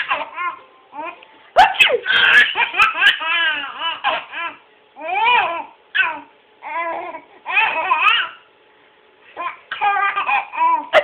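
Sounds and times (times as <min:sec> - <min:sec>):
baby laughing: 0:00.0 - 0:08.5, 0:09.4 - 0:11.0.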